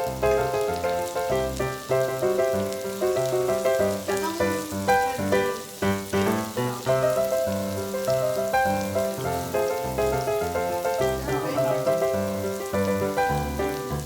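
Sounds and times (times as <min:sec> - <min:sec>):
faint sizzling hiss: 0:00.0 - 0:14.0.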